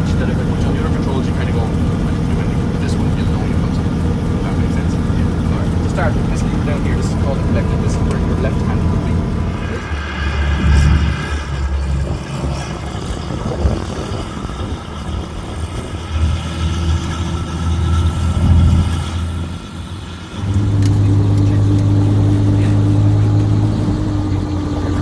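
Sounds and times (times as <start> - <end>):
helicopter engine and rotors droning: 0.0 - 25.0.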